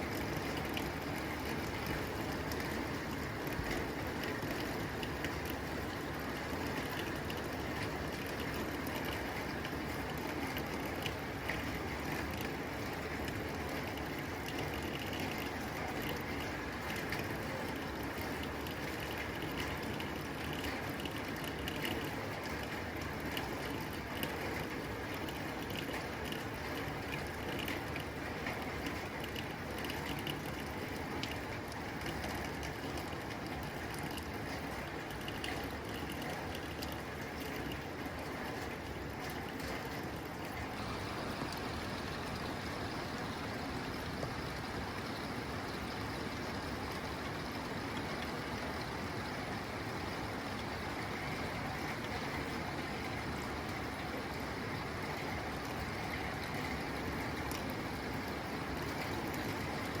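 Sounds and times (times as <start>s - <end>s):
rain on a tin roof: 0.0s - 60.0s.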